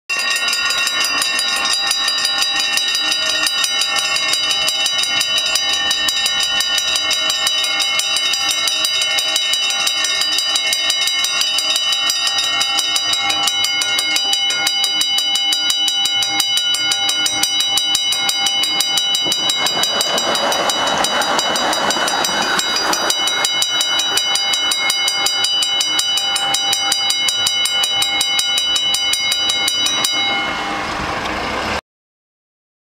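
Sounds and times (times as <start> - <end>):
level crossing bells ringing: 0.1 - 31.8
tram rumbling over crossing: 0.1 - 31.8.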